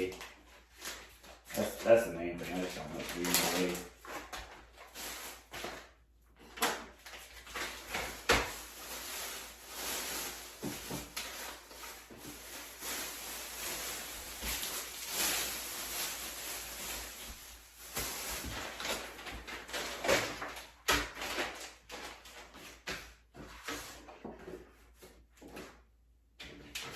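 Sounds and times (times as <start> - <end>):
rustling and scraping of storage bin: 1.6 - 25.8.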